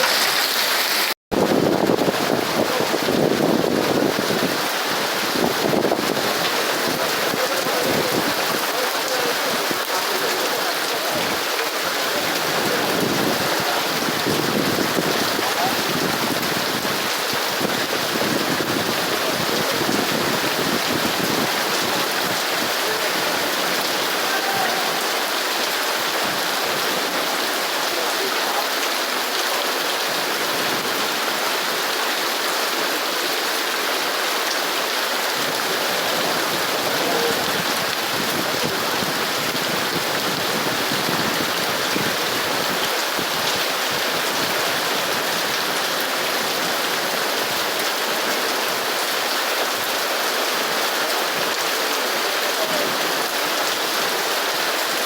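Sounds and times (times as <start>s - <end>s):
heavy rain on hard surfaces: 0.0s - 55.0s.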